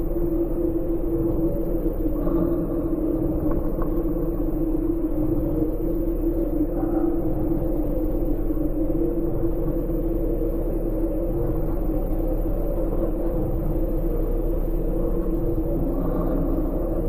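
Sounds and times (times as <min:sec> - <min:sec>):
deep hum: 0:00.0 - 0:17.0
low rumbling drone: 0:00.0 - 0:17.0.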